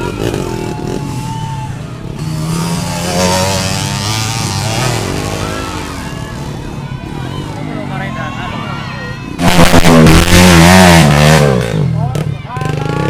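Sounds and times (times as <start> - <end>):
motorcycle engine revving: 0.0 - 8.3, 9.2 - 13.0.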